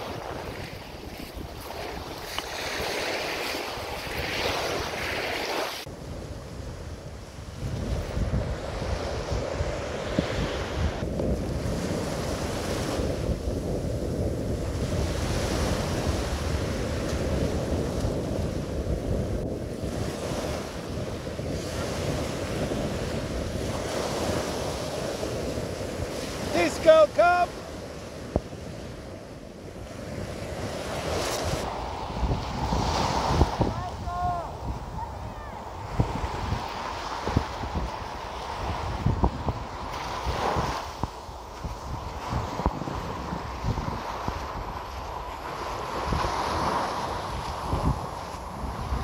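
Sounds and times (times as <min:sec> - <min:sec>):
surf washing up beach: 0:00.0 - 0:49.0
wind buffeting microphone: 0:00.0 - 0:49.0.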